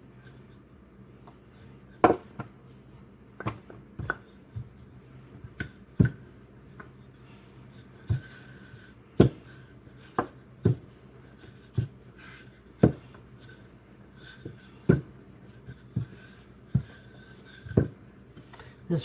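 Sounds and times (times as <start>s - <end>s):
rolling pin rolling dough: 0.0s - 19.0s.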